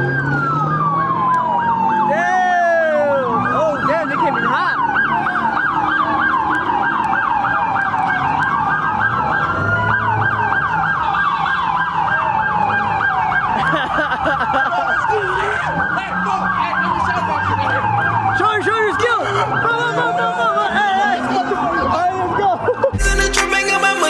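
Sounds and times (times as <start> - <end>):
police siren fast yelp: 0.0 - 23.0
police siren slow wail: 0.0 - 23.8.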